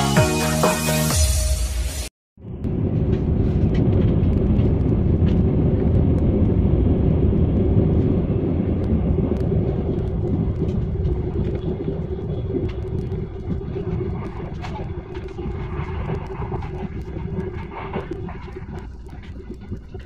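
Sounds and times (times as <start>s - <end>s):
train rumbling at speed: 1.8s - 20.0s.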